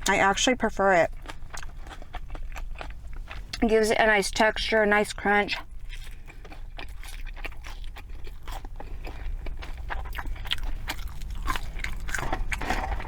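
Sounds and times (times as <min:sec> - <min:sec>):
wet chewing crunches: 0:00.0 - 0:13.0.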